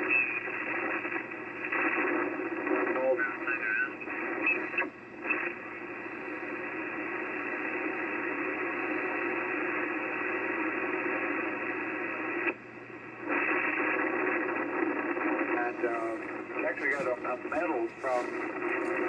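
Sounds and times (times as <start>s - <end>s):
radio static and hiss: 0.0s - 19.0s.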